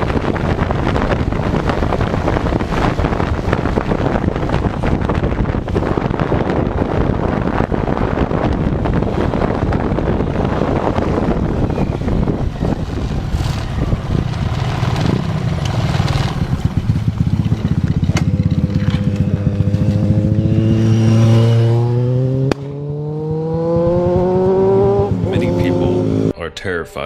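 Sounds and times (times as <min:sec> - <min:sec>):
motorcycle engine accelerating: 0:00.0 - 0:26.4.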